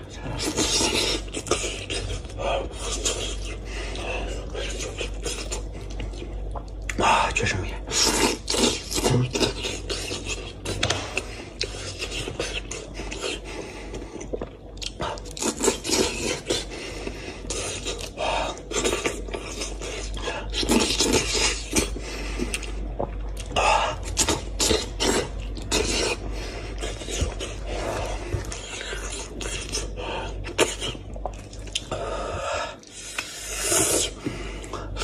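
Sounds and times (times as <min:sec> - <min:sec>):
person chewing and sucking meat: 0:00.0 - 0:35.0.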